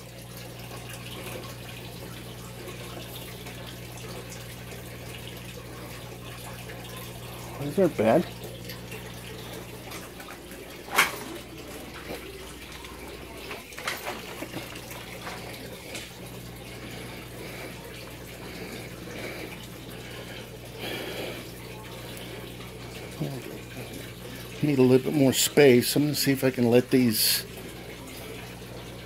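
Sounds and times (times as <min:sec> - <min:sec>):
low even hum: 0:00.0 - 0:29.0
running and trickling water: 0:00.0 - 0:29.0.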